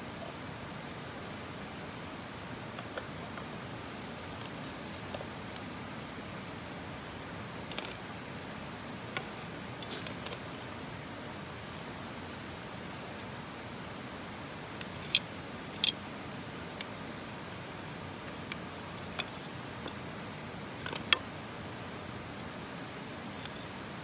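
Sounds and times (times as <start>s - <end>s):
campfire crackling: 0.1s - 24.0s.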